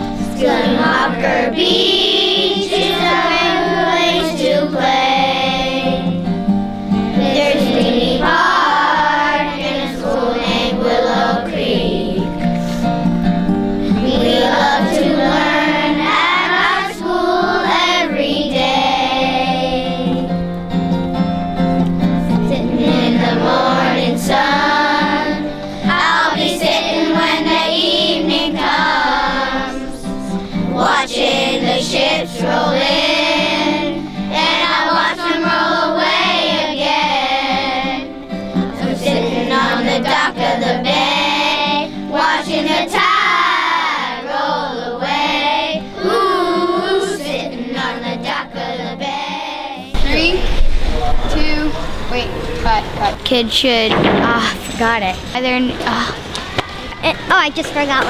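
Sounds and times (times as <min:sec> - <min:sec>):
children singing with accompaniment: 0:00.0 - 0:53.0, 0:55.8 - 0:57.3.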